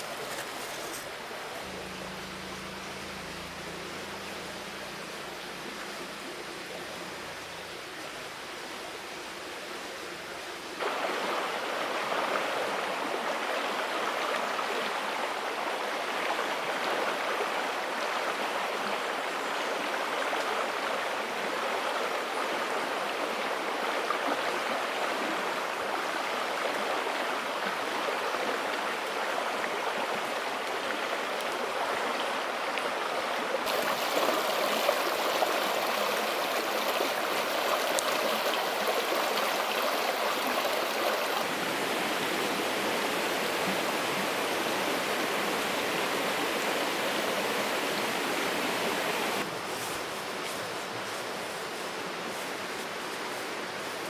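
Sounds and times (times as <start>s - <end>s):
stream water rushing: 0.0s - 49.7s.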